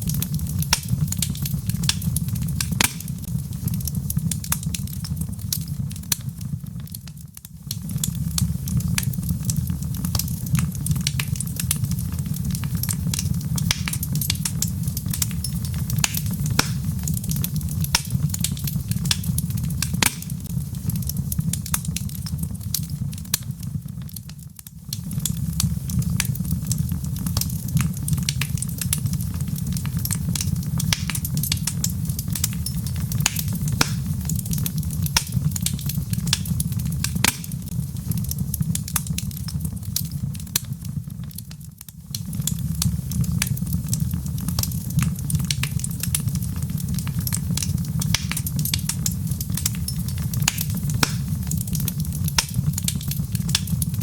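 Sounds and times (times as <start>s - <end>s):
crackles and pops of burning logs: 0.0s - 54.0s
low rumble of flame: 0.0s - 54.0s.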